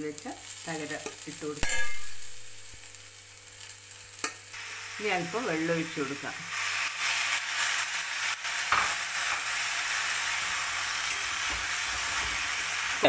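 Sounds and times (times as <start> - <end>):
leaves sizzling in a hot pan: 0.0 - 13.0.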